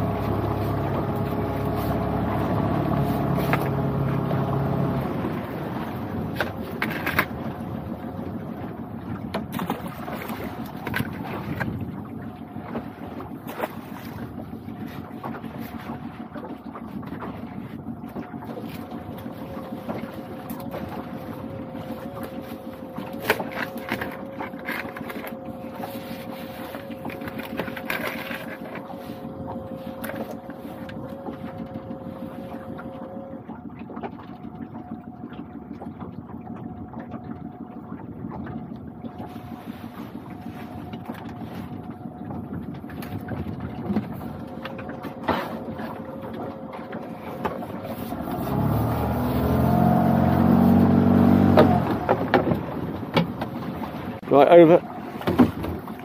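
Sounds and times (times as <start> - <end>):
outboard motor idling: 0.0 - 56.0
water slapping hull: 0.0 - 56.0
wind: 0.0 - 56.0.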